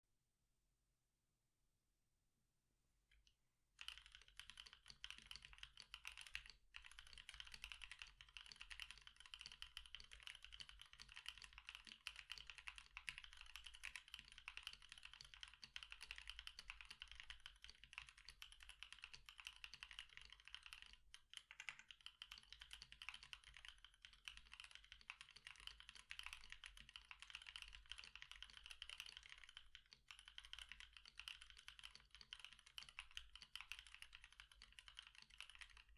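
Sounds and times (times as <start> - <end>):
mechanical keyboard typing: 3.8 - 35.9.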